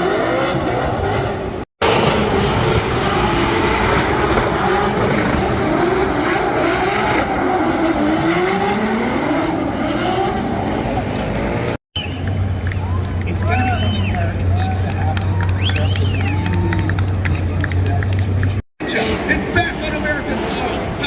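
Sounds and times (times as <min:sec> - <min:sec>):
car engine revving: 0:00.0 - 0:19.6.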